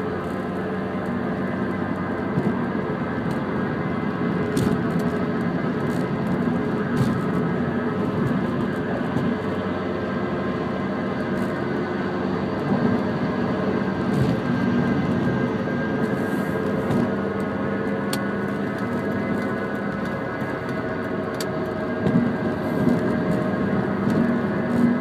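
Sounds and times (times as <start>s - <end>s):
car engine grinding: 0.0s - 25.0s.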